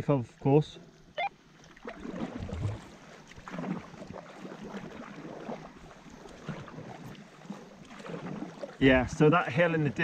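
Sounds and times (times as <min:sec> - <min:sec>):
paddles stroking through water: 0:00.0 - 0:10.0.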